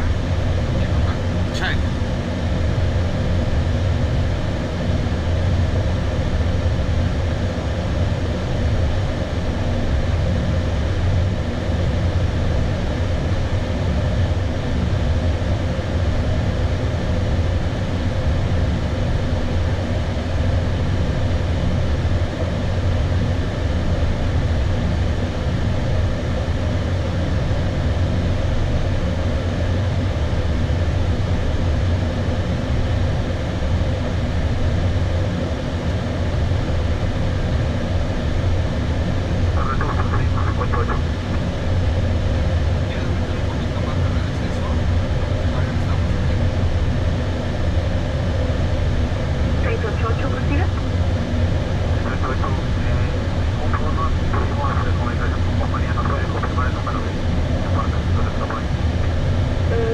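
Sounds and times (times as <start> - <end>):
airflow over aircraft nose: 0.0 - 59.7
jet engines humming: 0.0 - 59.9.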